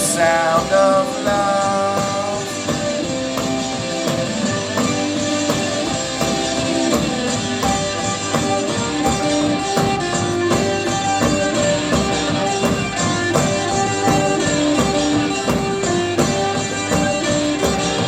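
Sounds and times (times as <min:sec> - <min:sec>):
droning electric guitar: 0:00.0 - 0:18.0
percussion hits: 0:00.0 - 0:18.0.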